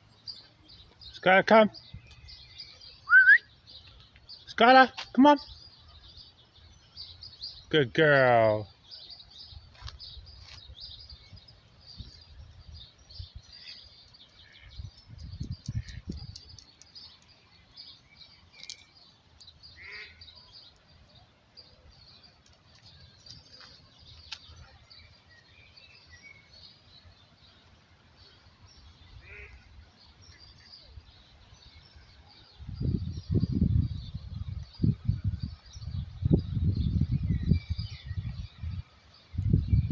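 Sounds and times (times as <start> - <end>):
small birds chirping faintly: 0.0 - 39.9.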